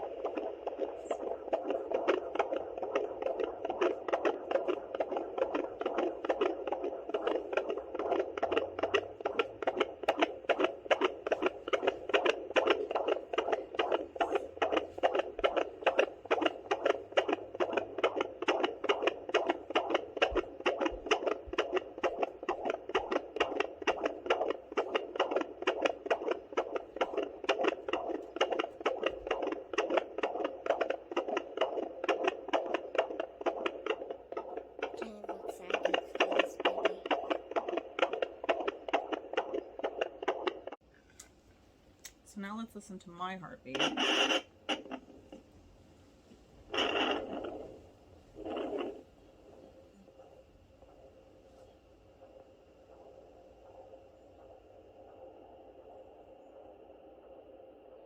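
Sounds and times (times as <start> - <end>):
fetal heartbeat through doppler speaker: 0.0 - 40.8, 42.4 - 45.5, 46.3 - 58.0.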